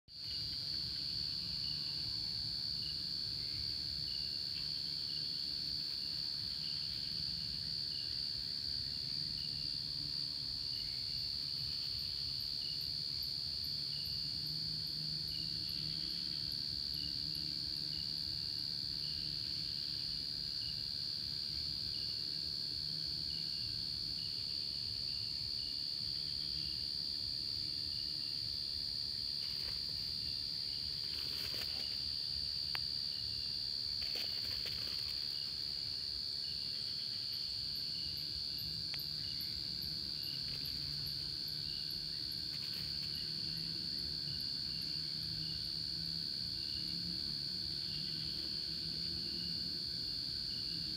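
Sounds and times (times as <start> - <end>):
crickets trilling: 0.1 - 50.9
lower insect chirp: 0.1 - 50.9.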